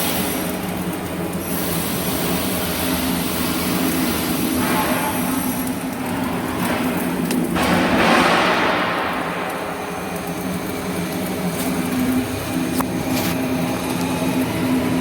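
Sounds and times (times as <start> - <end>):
low machine hum: 0.0 - 15.0
welding arc hiss: 0.0 - 15.0.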